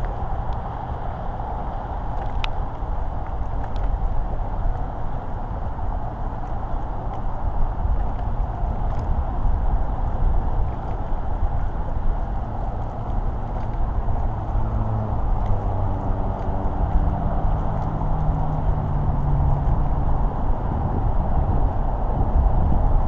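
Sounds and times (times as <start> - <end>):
low steady droning tone: 0.0 - 23.0
wind rumbling on microphone: 0.0 - 23.0.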